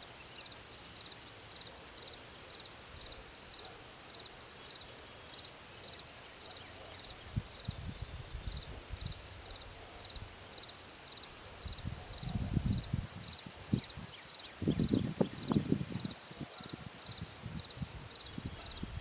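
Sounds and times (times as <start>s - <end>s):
insects chirping high-pitched: 0.1s - 19.0s.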